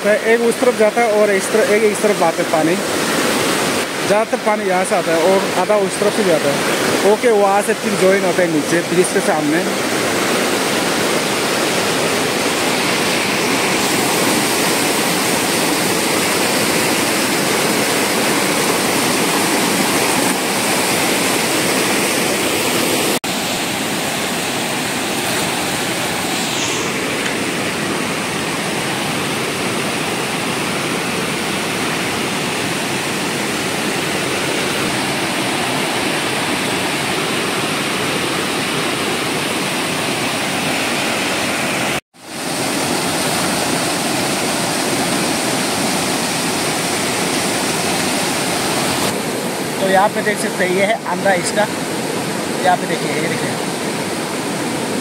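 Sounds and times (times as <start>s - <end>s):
rushing stream rapids: 0.0s - 55.0s.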